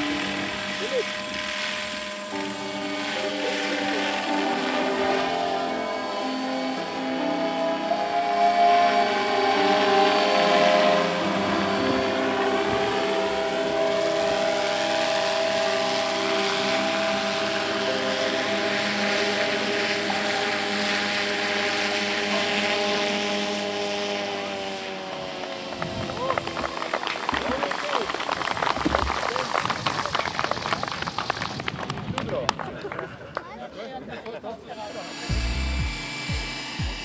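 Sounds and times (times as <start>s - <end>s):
model helicopter motor whine: 0.0s - 32.0s, 34.6s - 37.0s.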